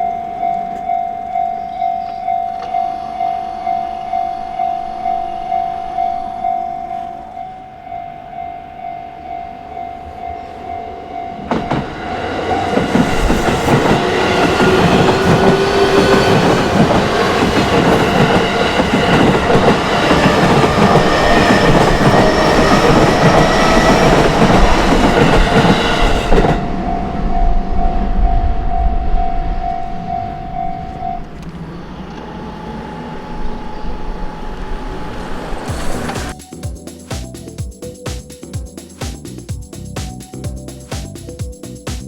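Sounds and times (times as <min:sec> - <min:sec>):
level-crossing alarm bell: 0:00.0 - 0:34.7
train running over crossing: 0:00.0 - 0:42.0.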